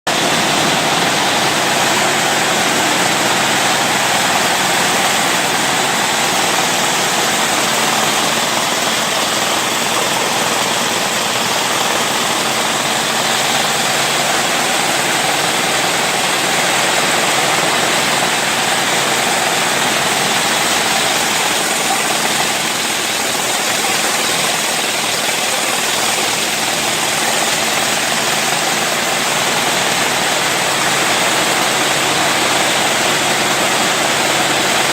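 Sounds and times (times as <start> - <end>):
braiding machine running: 0.1 - 34.9.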